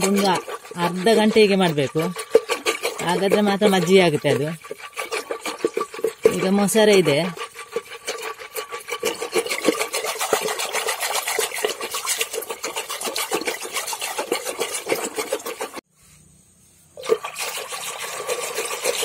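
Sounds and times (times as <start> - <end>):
churn sloshing in a pot: 0.0 - 15.8, 17.0 - 19.0.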